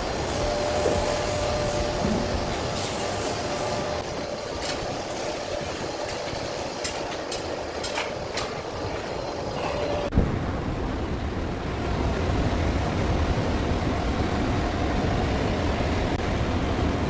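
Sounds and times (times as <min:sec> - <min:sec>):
exhaust fan drone: 0:00.0 - 0:17.0.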